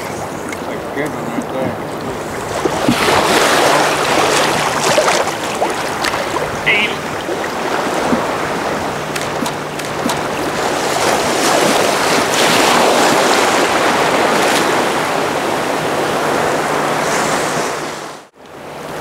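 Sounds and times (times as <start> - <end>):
wind on microphone: 0.0 - 18.2
surf washing and sloshing: 0.0 - 19.0.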